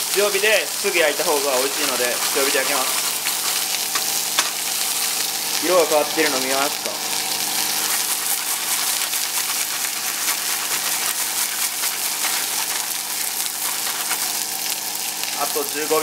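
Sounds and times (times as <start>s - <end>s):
steak sizzling in a frying pan: 0.0s - 16.0s.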